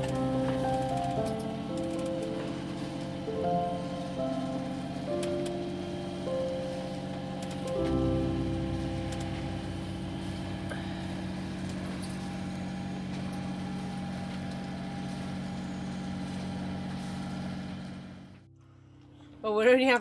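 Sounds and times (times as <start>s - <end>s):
diesel engine low drone: 0.0s - 20.0s.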